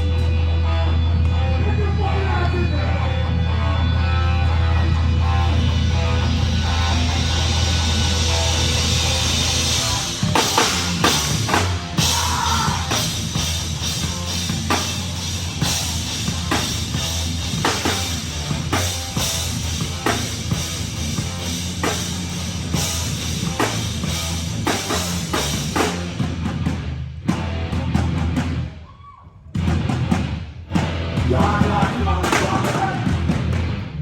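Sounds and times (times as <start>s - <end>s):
heavy rock band playing live: 0.0s - 28.8s, 29.6s - 34.0s
loud drum kit beat: 5.2s - 28.8s, 29.5s - 34.0s.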